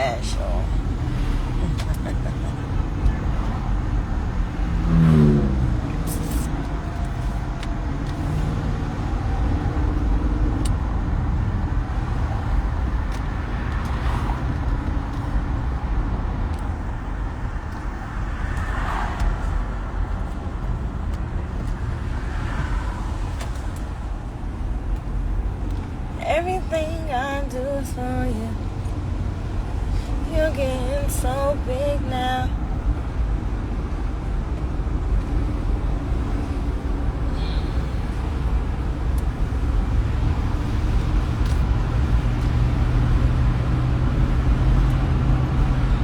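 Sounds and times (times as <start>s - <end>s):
car road and engine rumble: 0.0s - 46.0s.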